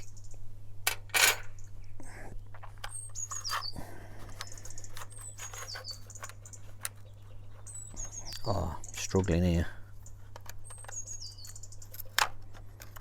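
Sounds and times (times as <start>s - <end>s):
small bird chirping: 0.0s - 0.4s, 2.7s - 13.0s.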